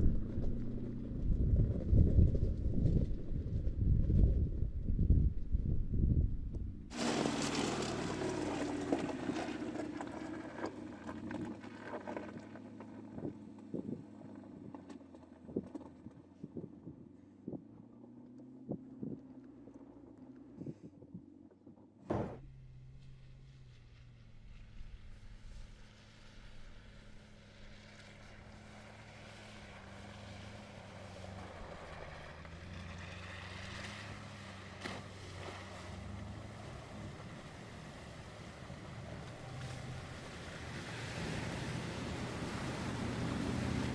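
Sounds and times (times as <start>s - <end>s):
car engine passing: 6.8s - 20.7s, 22.1s - 43.9s.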